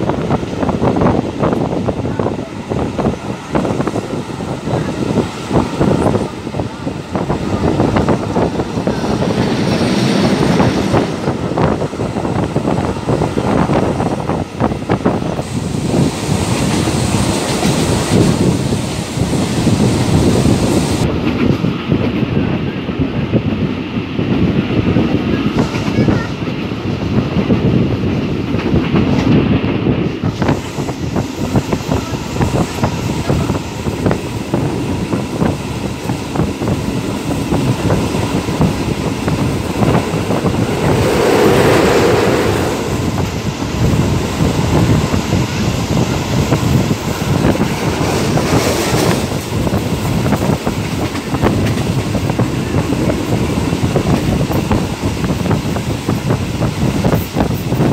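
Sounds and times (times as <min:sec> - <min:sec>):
train rumbling with clickety-clack wheels: 0:00.0 - 0:57.9.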